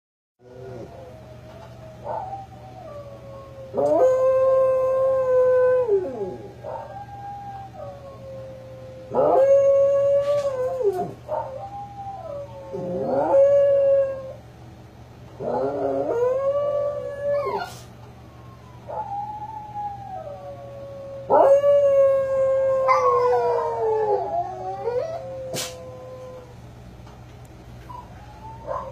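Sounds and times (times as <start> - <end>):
dog howling: 0.4 - 14.4, 15.4 - 17.8, 18.4 - 26.5, 27.9 - 28.9.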